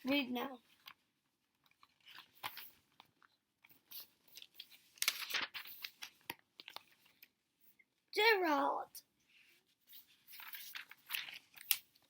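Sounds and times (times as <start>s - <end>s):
book pages turning: 0.1s - 7.4s, 9.4s - 12.0s.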